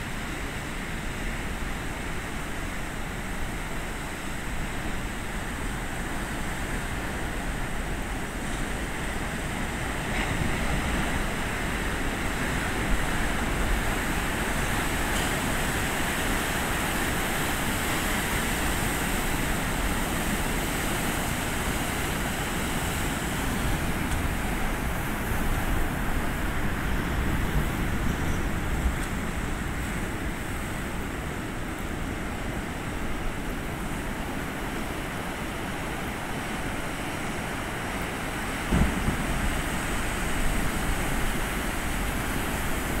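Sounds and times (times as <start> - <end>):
waves crashing: 4.3 - 43.0.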